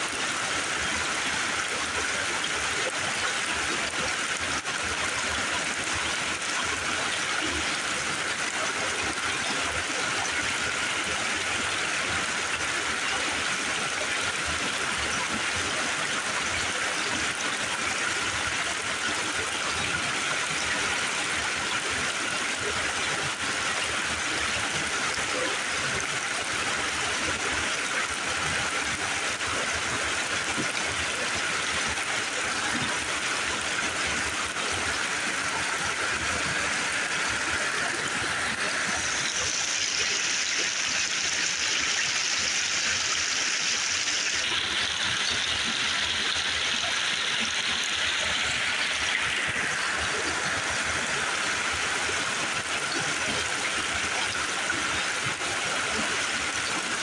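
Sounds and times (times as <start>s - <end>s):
creek running over rocks: 0.0s - 57.0s.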